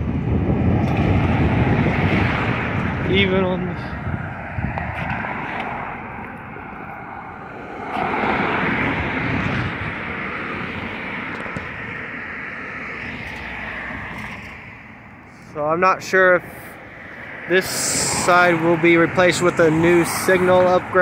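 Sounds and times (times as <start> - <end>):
vehicle passing: 0.2 - 21.0.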